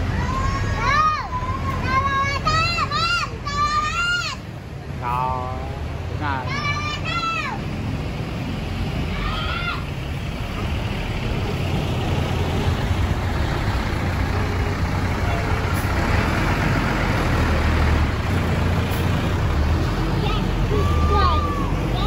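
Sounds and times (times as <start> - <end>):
bus engine rumble: 0.0 - 22.0
tyre noise on road: 0.0 - 22.0.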